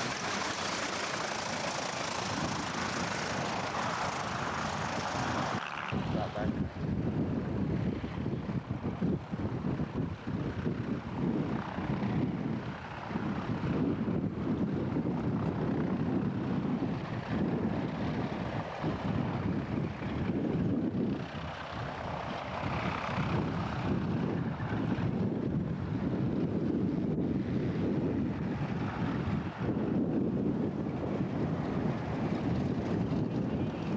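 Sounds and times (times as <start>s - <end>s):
propeller aircraft engine running: 0.0s - 33.9s
wind rumble on microphone: 0.0s - 33.9s.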